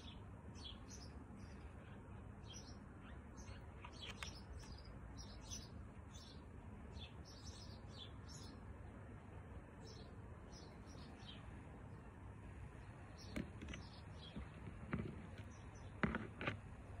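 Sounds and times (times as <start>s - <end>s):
birds chirping: 0.0s - 9.0s, 9.6s - 17.0s.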